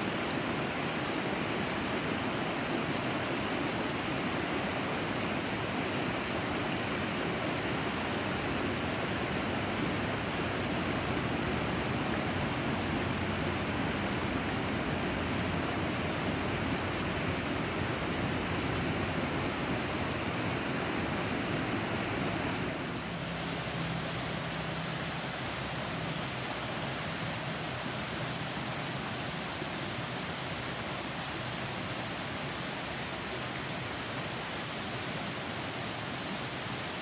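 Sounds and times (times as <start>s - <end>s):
creek rushing over rocks: 0.0s - 37.0s.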